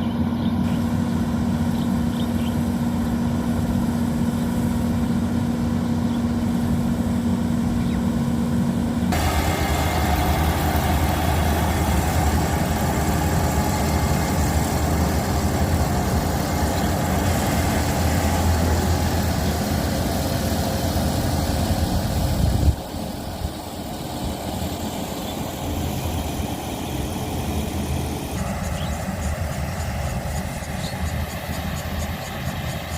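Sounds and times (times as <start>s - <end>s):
engine running with low rumble: 0.0s - 32.9s.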